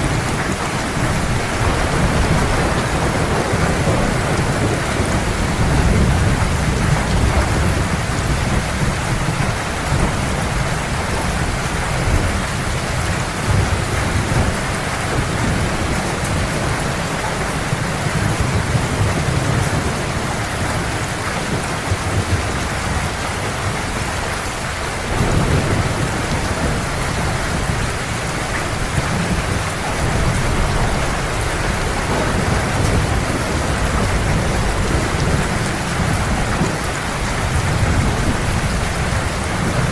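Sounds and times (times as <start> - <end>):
heavy rain hissing: 0.0 - 39.9
low rolling thunder: 0.0 - 39.9.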